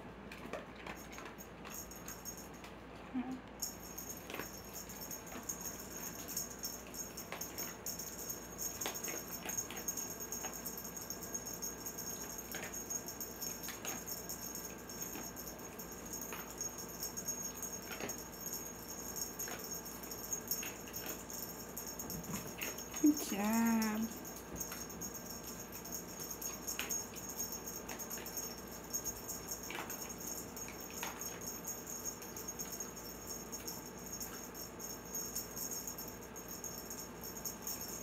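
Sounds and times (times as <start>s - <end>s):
cat toy clicks and rattles: 0.3s - 2.8s, 3.6s - 38.0s.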